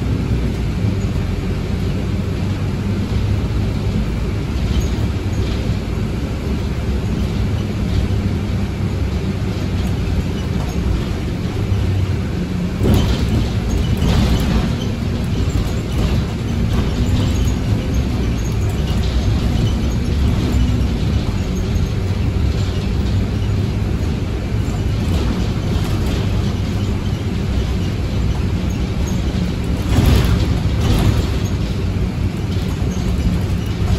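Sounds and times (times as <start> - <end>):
bus engine and road rumble: 0.0 - 33.9.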